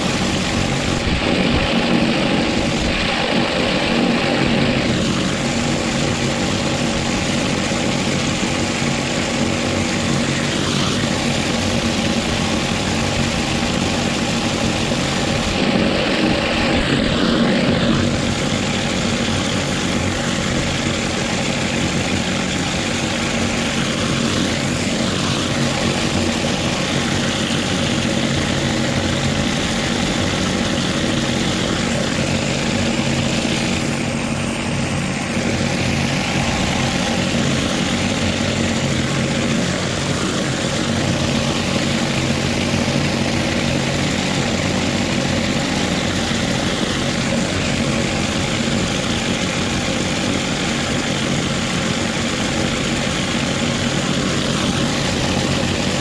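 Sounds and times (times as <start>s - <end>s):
pressure washer drone: 0.0s - 56.0s.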